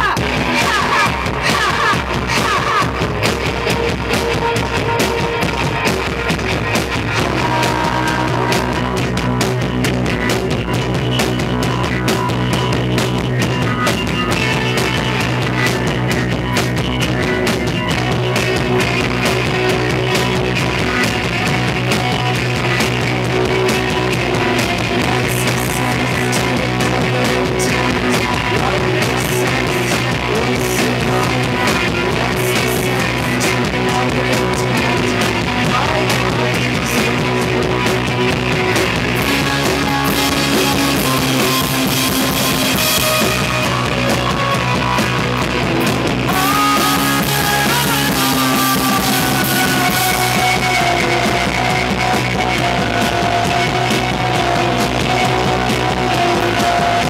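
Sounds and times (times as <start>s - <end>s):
person singing: 0.0s - 5.4s, 7.1s - 9.6s, 18.0s - 57.0s
bass guitar: 0.0s - 57.0s
drums: 0.0s - 57.0s
electric guitars: 0.0s - 57.0s.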